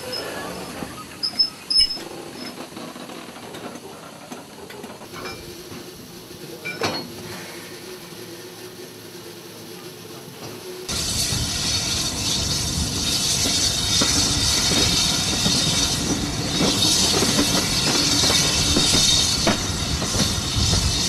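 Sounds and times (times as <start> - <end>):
rumble of wheels on rail: 0.0 - 21.0.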